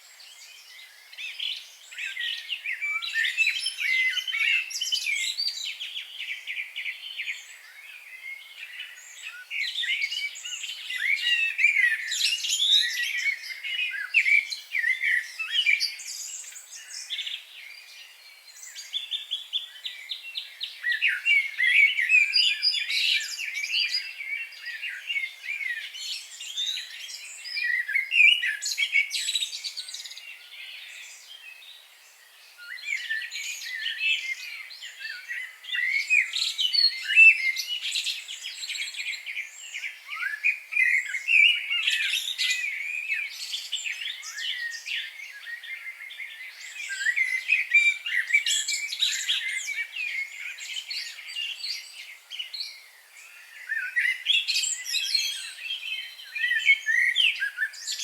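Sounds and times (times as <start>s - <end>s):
birds chirping and singing: 0.3s - 58.0s.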